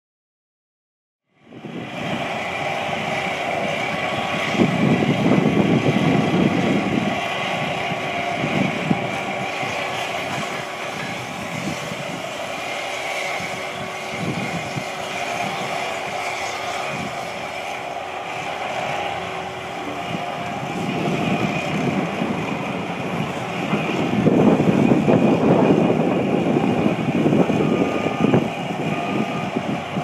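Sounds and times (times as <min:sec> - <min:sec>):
heavy machinery rumbling: 0:01.4 - 0:30.0.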